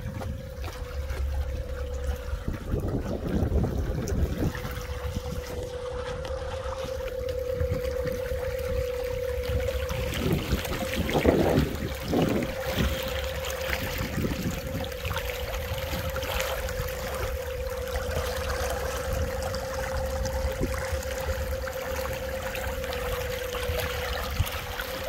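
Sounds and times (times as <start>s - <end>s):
steady hum: 0.0s - 25.0s
wake water churning: 0.0s - 25.0s.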